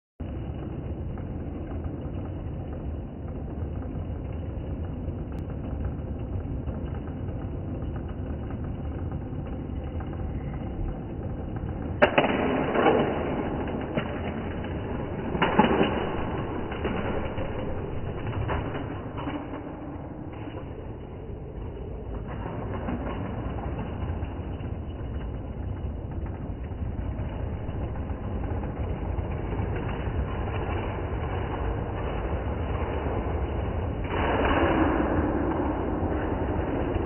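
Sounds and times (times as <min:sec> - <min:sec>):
low background rumble: 0:00.2 - 0:37.0.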